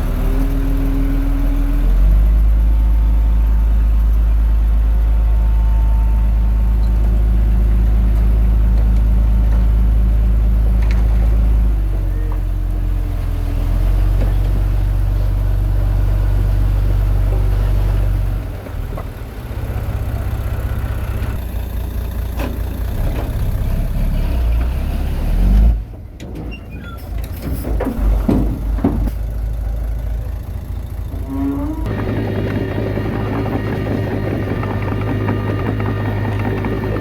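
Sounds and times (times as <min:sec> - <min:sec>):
heavy diesel engine rumbling: 0:00.0 - 0:37.0.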